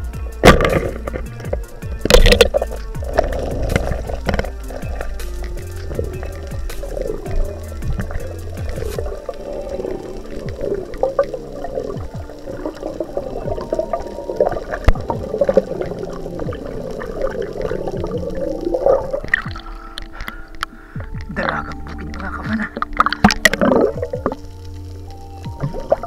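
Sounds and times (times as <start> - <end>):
muffled underwater noise: 0.0 - 26.0
sharp underwater clicks: 0.0 - 26.0
wavering tones: 0.0 - 26.0.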